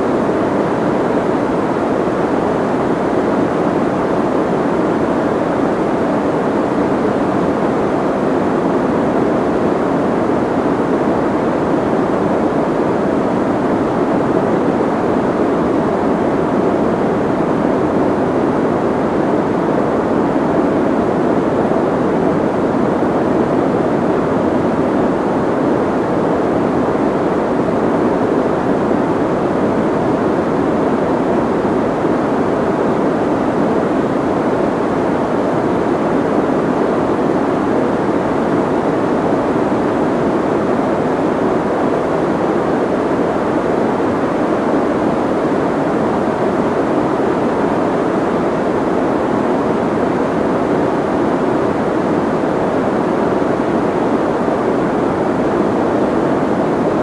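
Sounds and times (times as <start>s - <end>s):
soft muffled white noise: 0.0s - 57.0s.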